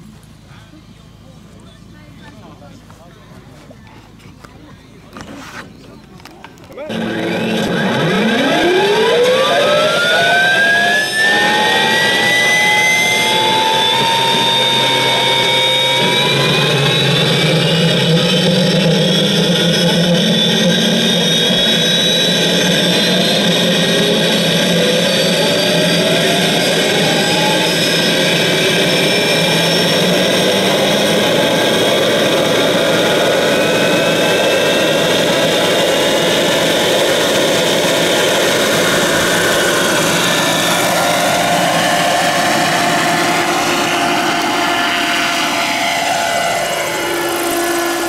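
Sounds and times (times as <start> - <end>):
helicopter rotor noise: 6.6 - 48.0
model helicopter motor whine: 6.8 - 48.0.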